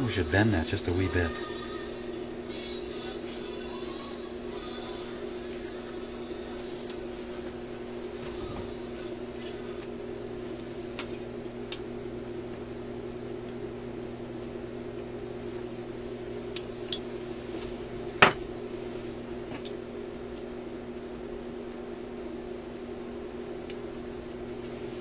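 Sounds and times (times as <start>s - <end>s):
record player humming: 0.0s - 25.0s.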